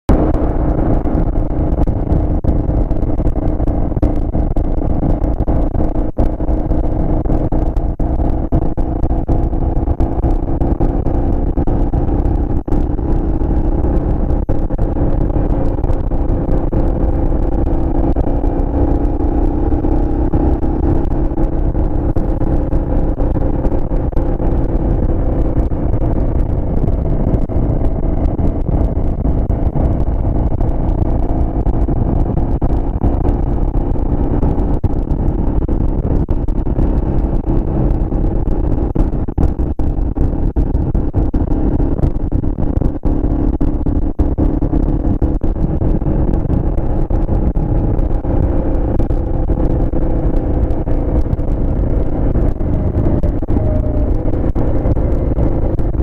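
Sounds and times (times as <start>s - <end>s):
wind and road noise: 0.0s - 56.0s
motorcycle engine cruising: 0.1s - 56.0s.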